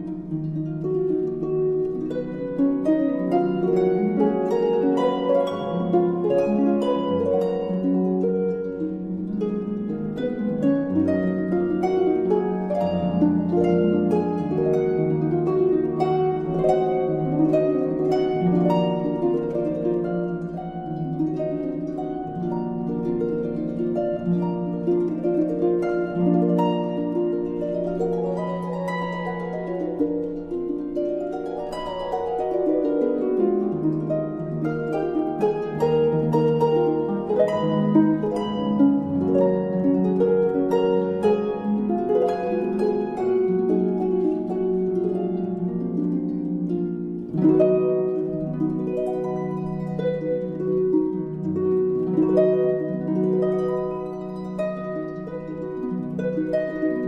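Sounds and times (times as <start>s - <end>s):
plucked harp-like music: 0.0s - 57.0s.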